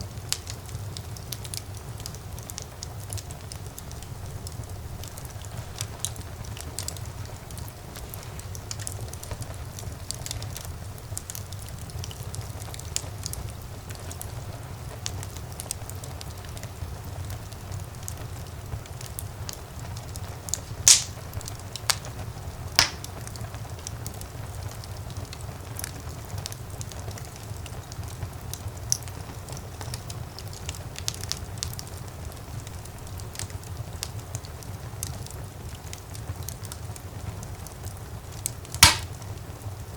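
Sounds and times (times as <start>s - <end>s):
fire crackling: 0.0s - 39.9s
loud pops of fire: 0.0s - 39.9s
low rumble of fire: 0.0s - 39.9s.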